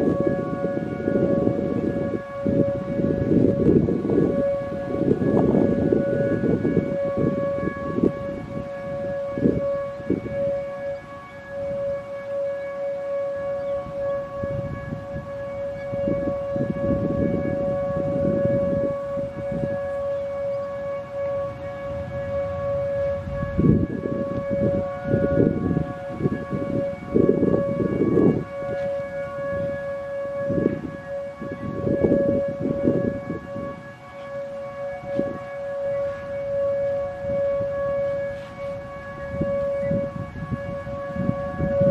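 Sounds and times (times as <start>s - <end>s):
dual-tone warning siren: 0.0s - 41.9s.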